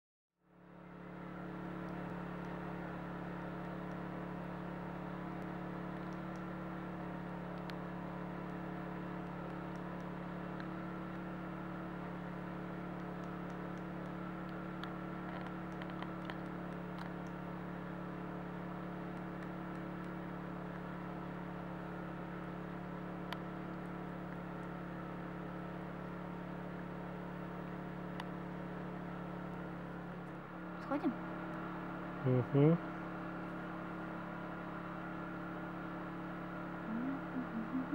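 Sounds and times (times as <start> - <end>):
steady mechanical hum: 0.4 - 37.9.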